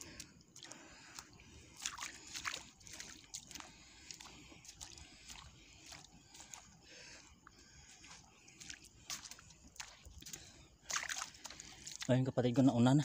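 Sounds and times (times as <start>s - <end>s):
feet wading through shallow water: 0.0s - 13.0s.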